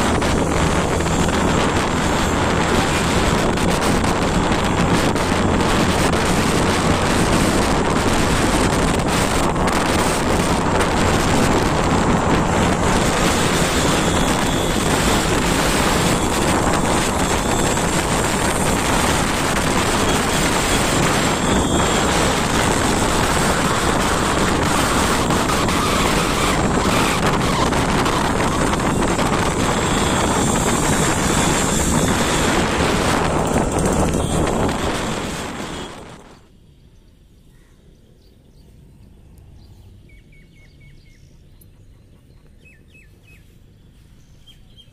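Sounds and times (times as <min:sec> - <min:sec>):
wind rushing over microphone: 0:00.0 - 0:36.5
motorbike engine and road noise: 0:00.0 - 0:44.9.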